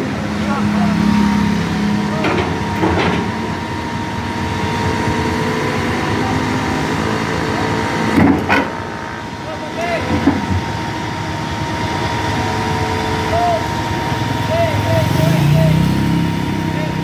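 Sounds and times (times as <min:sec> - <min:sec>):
excavator diesel engine running: 0:00.0 - 0:17.0
steady whine: 0:00.0 - 0:17.0.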